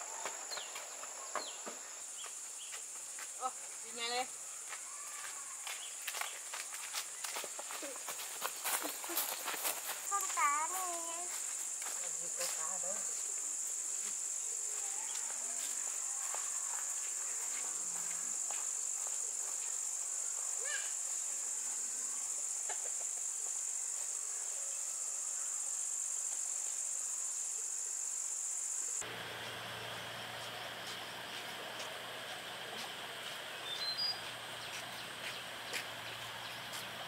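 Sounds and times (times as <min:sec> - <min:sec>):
insect chorus buzzing: 0:00.0 - 0:37.0.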